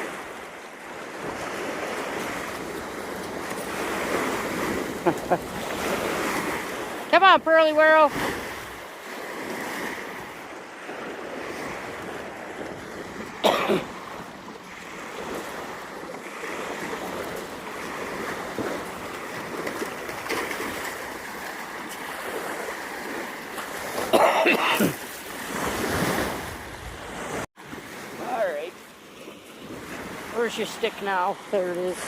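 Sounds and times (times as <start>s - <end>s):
surf breaking on beach: 0.0s - 32.0s.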